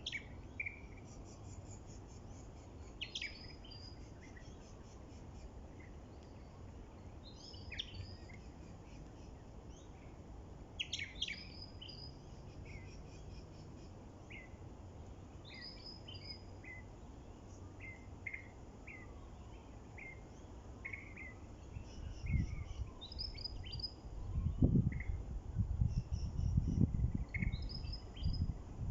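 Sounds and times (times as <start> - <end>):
small birds chirping: 0.0 - 28.6
low wind rumble: 3.1 - 28.9.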